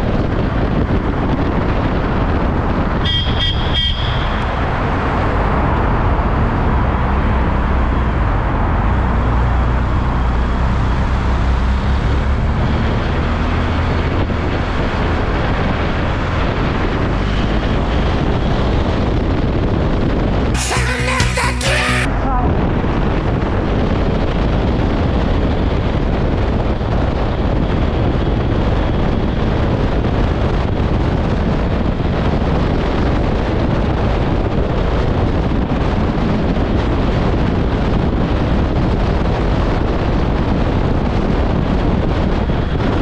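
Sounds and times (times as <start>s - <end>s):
wind rush on microphone: 0.0s - 20.6s, 22.0s - 43.0s
road noise: 0.0s - 43.0s.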